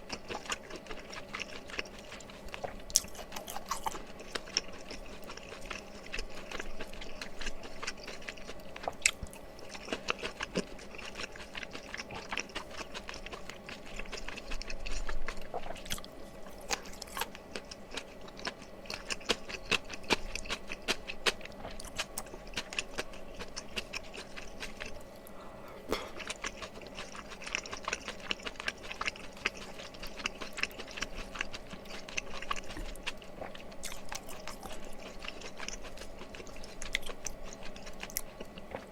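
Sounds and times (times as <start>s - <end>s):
close chewing with mouth sounds: 0.0s - 38.9s.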